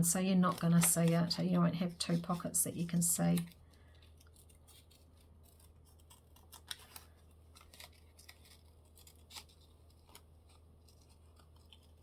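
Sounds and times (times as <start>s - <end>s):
scissors snipping paper: 0.0s - 12.0s.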